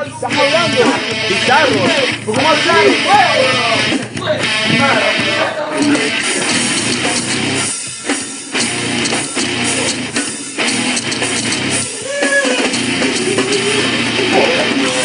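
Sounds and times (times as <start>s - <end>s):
distorted electric guitar: 0.0s - 15.0s
drum kit: 0.0s - 15.0s.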